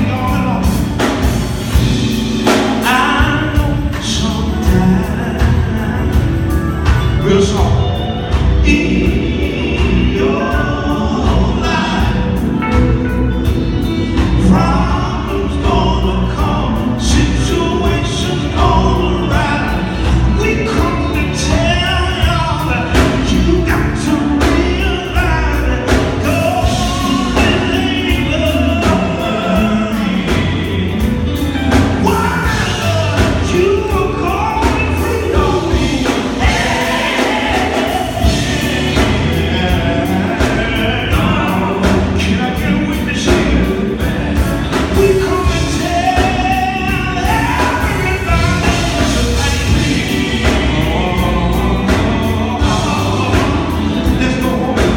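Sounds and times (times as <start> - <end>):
drum beat: 0.0 - 54.9
electric guitar: 0.0 - 54.9
man singing through pa: 0.0 - 54.9.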